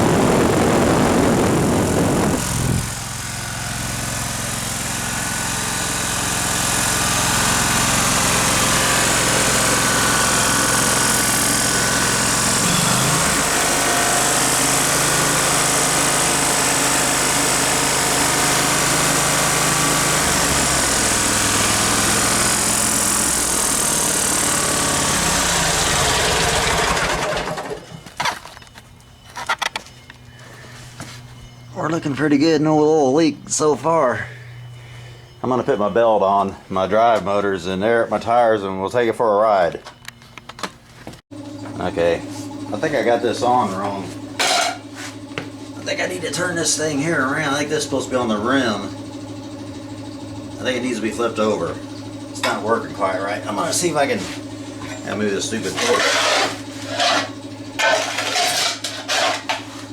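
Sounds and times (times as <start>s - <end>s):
lawn mower engine running: 0.0s - 31.2s, 41.3s - 59.9s.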